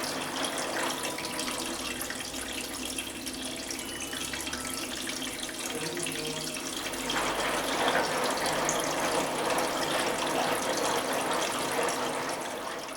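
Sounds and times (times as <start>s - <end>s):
water running into washing machine: 0.0s - 12.9s.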